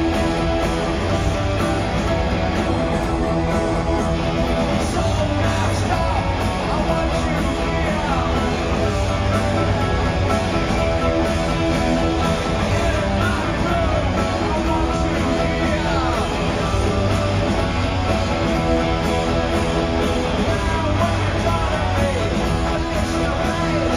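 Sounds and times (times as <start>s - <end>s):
electric guitars: 0.0s - 23.9s
live rock band playing: 0.0s - 23.9s.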